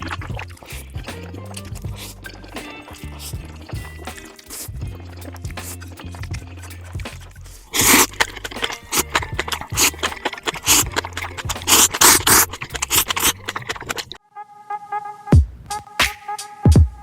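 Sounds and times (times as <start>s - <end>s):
background music with bass: 0.0s - 14.1s
crunchy chewing: 0.0s - 14.2s.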